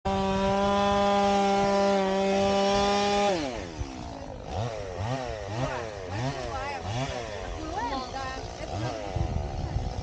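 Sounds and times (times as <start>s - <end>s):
chainsaw revving: 0.1s - 10.0s.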